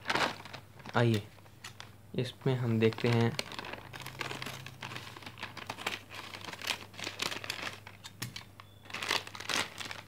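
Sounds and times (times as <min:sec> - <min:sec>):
snack packet crinkling: 0:00.0 - 0:10.0.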